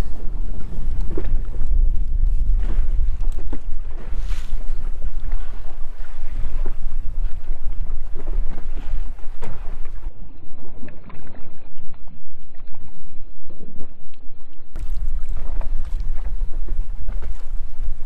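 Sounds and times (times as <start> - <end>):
water slapping against boat: 0.0 - 13.0, 14.8 - 18.0
wind buffeting microphone: 0.0 - 13.2, 14.6 - 18.0.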